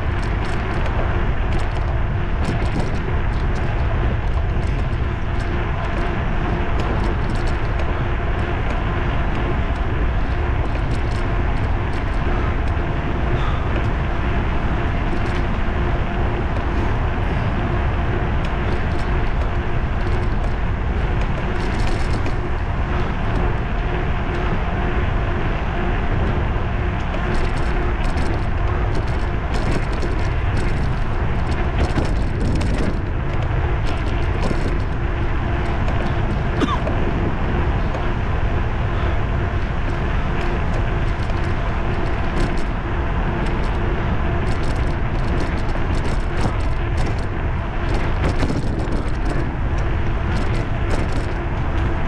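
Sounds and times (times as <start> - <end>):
small rattles: 0.0 - 24.6, 26.2 - 38.2, 38.9 - 52.0
faint steady hum: 0.0 - 52.0
tyre and road noise: 0.0 - 52.0
wind rushing on microphone: 0.0 - 52.0.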